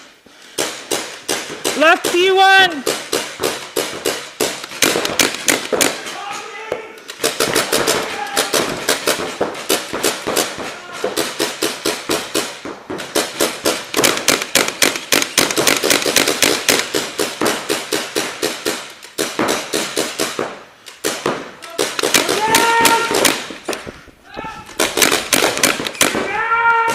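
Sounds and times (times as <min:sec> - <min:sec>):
paintball markers firing: 0:00.4 - 0:26.6.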